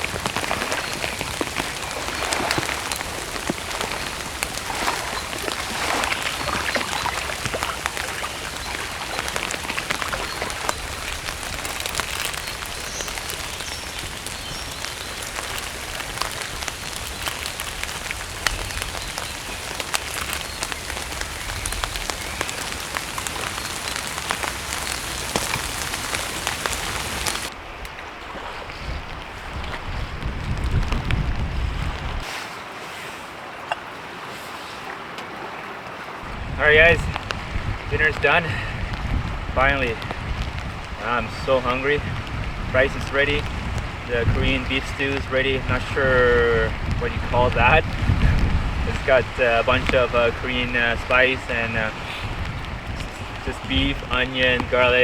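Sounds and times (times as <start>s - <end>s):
heavy rain falling: 0.0s - 27.6s, 29.0s - 32.3s, 35.7s - 55.0s
low wind rumble: 0.0s - 32.3s, 36.0s - 55.0s.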